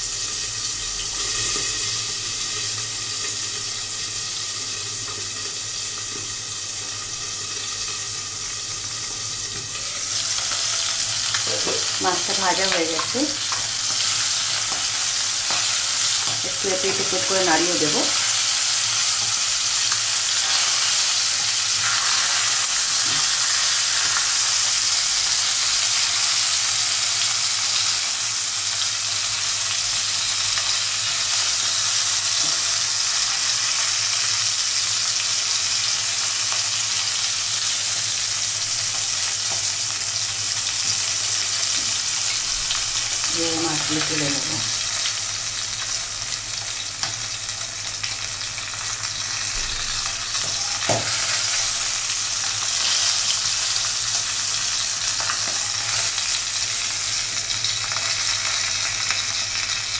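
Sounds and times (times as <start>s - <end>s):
fish sizzling in oil: 0.0s - 59.9s.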